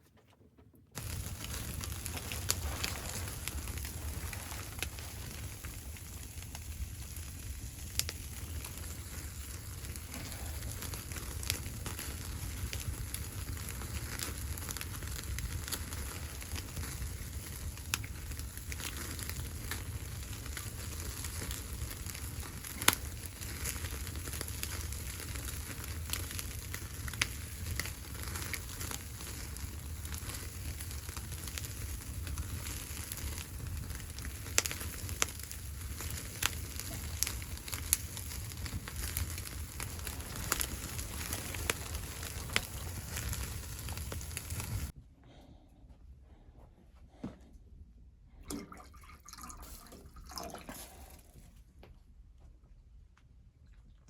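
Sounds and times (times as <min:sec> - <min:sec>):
wood fire crackling: 0:00.1 - 0:45.0, 0:48.5 - 0:52.0.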